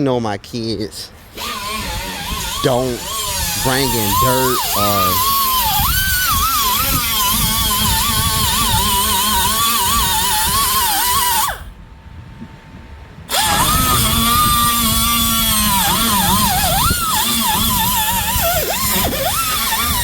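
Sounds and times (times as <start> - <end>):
power tool motor whining: 1.2 - 11.8, 13.3 - 20.0.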